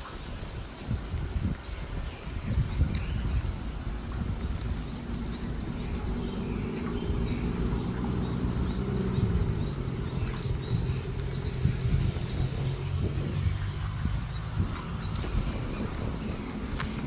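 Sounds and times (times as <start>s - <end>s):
small birds chirping: 0.0s - 17.0s
wind buffeting microphone: 0.0s - 17.0s.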